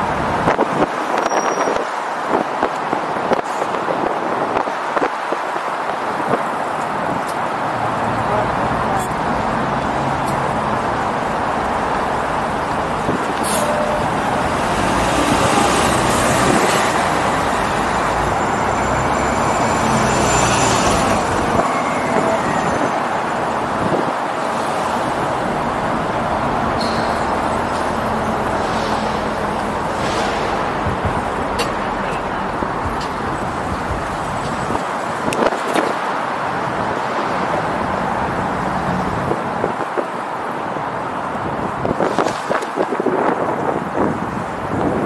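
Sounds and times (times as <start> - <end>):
city road traffic: 0.0 - 45.0
wind: 0.0 - 45.0.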